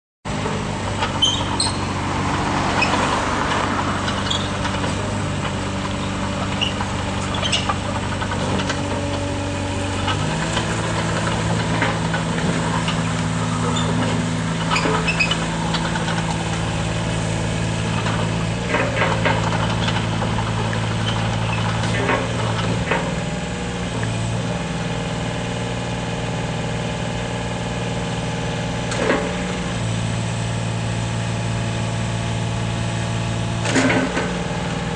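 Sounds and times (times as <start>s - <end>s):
mini excavator diesel engine: 0.3s - 34.9s.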